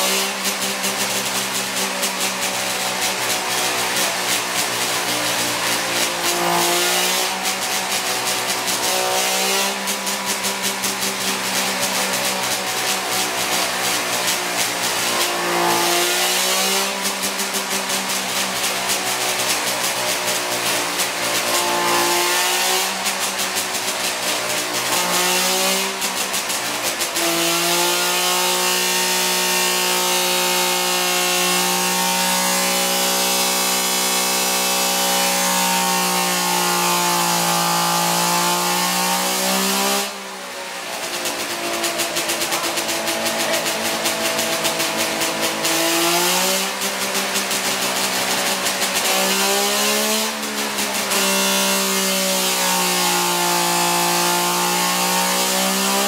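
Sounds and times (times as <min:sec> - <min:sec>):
two-stroke race engine running: 0:00.0 - 0:56.0.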